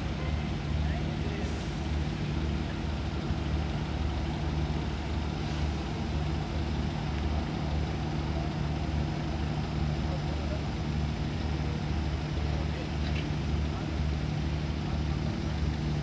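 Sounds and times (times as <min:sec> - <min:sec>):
ship engines humming and throbbing: 0:00.0 - 0:16.0.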